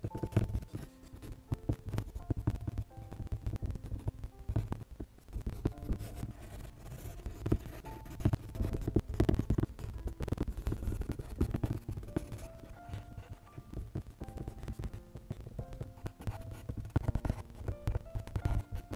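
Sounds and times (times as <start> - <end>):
colored pencil scratching on paper: 0.0 - 4.7, 5.4 - 18.9.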